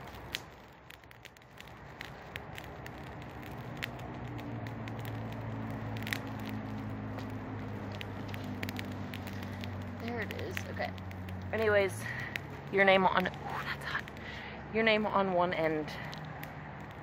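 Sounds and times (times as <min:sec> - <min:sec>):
fire crackling and popping: 0:00.0 - 0:17.0
rush of flames: 0:00.0 - 0:17.0.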